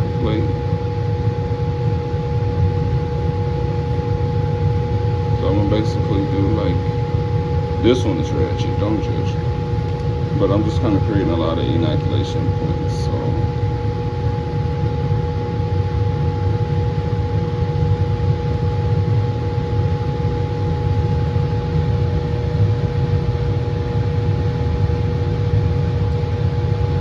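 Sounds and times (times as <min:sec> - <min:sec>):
blower rushing air with hum: 0:00.0 - 0:27.0.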